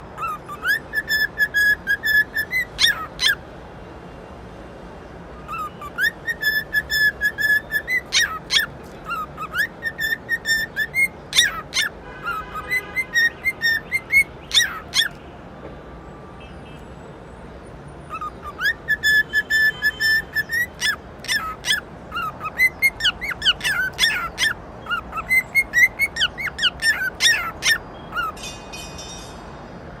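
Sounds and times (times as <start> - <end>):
bird whistling and chirping: 0.2 - 3.4, 5.5 - 15.2, 18.1 - 29.2.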